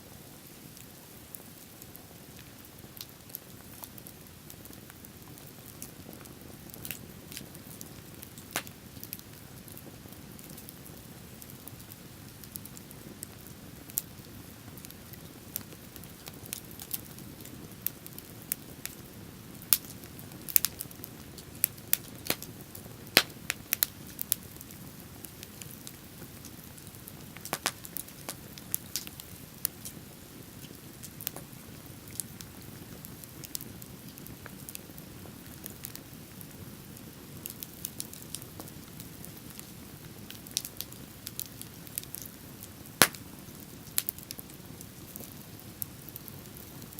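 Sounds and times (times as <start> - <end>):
bonfire crackling: 0.0 - 46.9.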